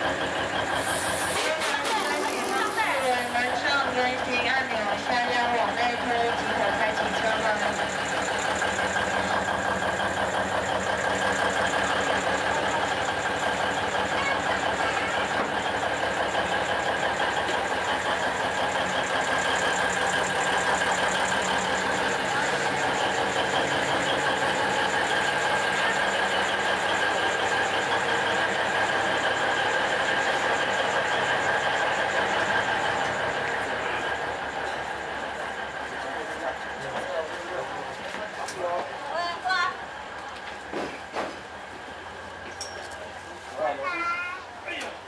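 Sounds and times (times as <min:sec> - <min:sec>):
diesel engine running: 0:00.0 - 0:43.8.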